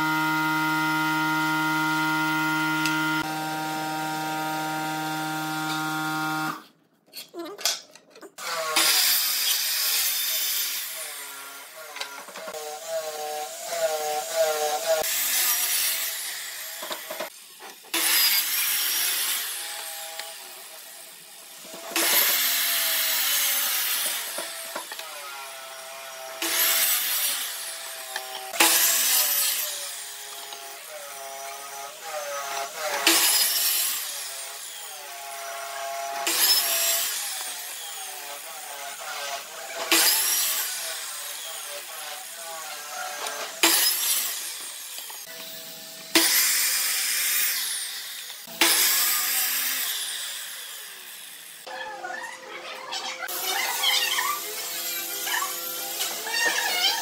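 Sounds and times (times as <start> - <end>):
miter saw cutting boards: 0.0 - 6.7, 8.4 - 20.8, 21.6 - 51.7.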